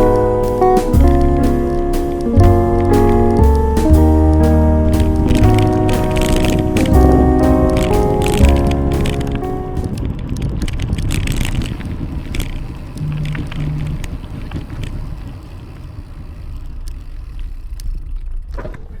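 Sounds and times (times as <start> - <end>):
short low hums: 0.0 - 10.0, 11.5 - 18.1
wind rumbling on microphone: 0.0 - 18.1.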